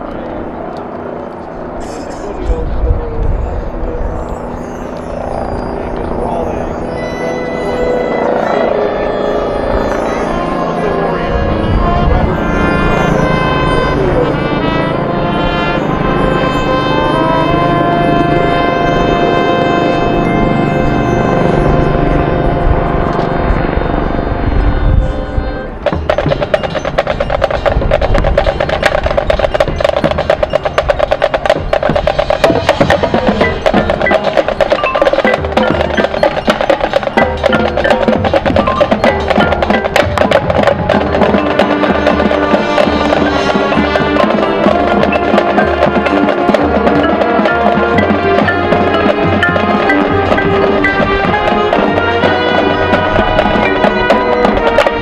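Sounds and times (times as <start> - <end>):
drum and mallet strokes: 4.1 - 23.7, 24.7 - 55.0
marching band playing: 4.1 - 55.0.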